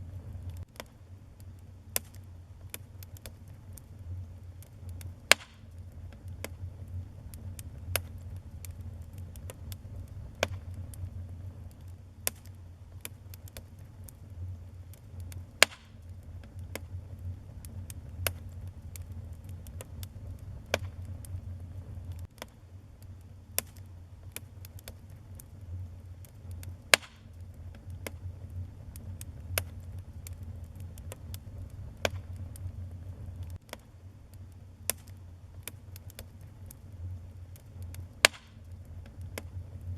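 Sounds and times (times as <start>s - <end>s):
fire low rumble: 0.0s - 39.9s
loud fire pops: 0.0s - 39.9s
wood fire crackling: 0.0s - 39.9s.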